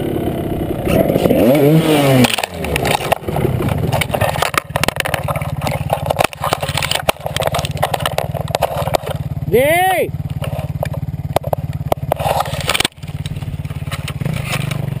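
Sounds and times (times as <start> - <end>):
dirt bike engine revving: 0.0 - 15.0
dry branches cracking: 1.3 - 9.3, 10.2 - 15.0
engine idling: 2.2 - 15.0.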